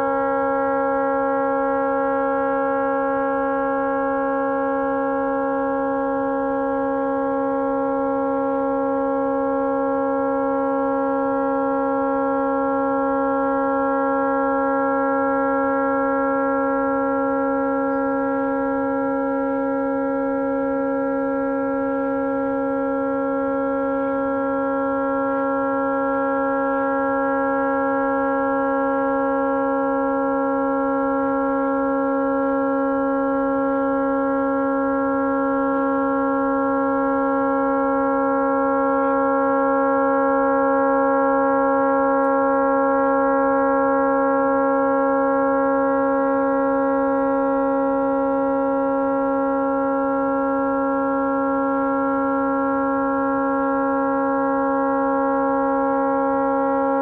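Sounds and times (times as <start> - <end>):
tugboat horn sounding steadily: 0.0 - 57.0.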